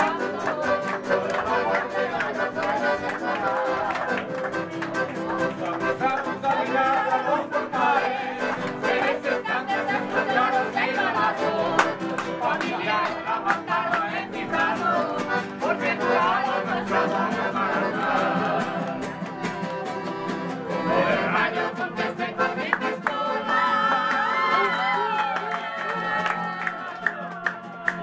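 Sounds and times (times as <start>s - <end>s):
people singing along: 0.0s - 4.0s, 5.8s - 19.2s, 20.7s - 28.0s
piano accordion: 0.0s - 24.2s
strummed acoustic guitars: 0.0s - 28.0s.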